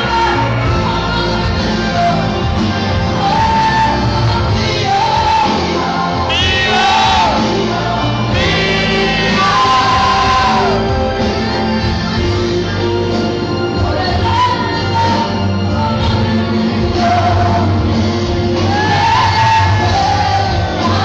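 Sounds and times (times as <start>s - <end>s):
loud amplified backing music: 0.0s - 21.0s
woman singing into a microphone: 0.0s - 21.0s.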